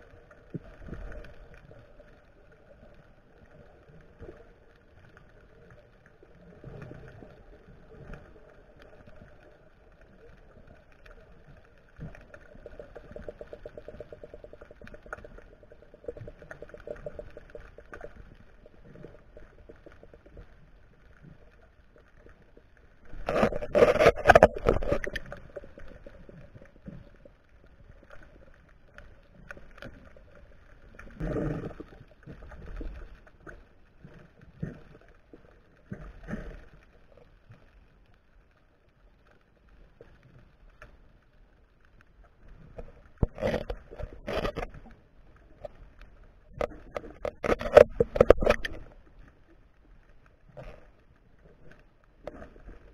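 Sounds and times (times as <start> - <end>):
muffled underwater water noise: 0.0 - 52.9.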